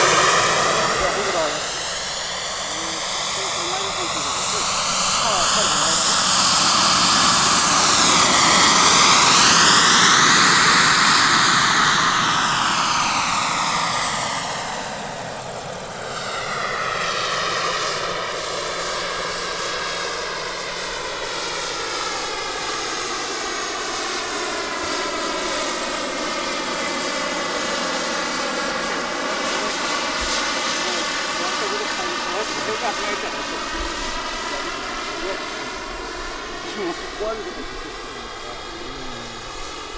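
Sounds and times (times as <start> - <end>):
model helicopter turbine whine: 0.0 - 39.9.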